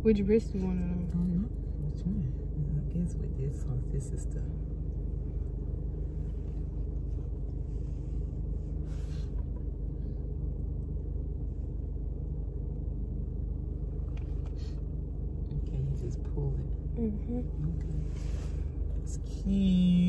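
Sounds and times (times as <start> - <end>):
car engine and cabin rumble: 0.0 - 20.0.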